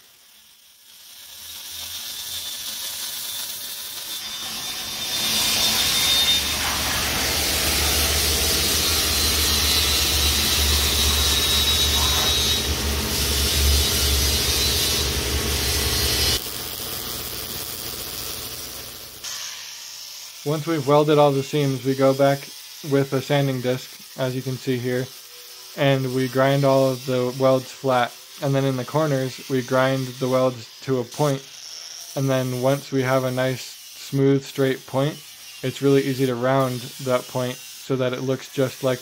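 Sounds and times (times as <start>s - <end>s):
welding arc crackling: 0.0s - 39.0s.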